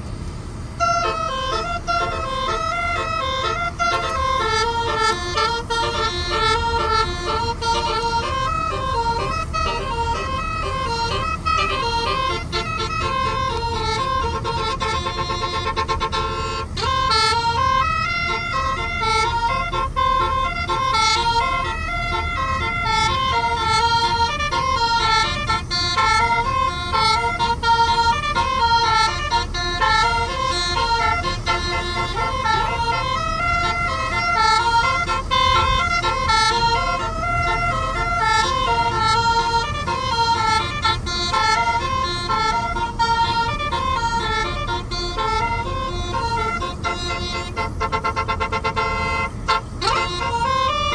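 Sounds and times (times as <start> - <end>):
steady low rumble: 0.0 - 50.9
musical air horns playing a tune: 0.8 - 50.9.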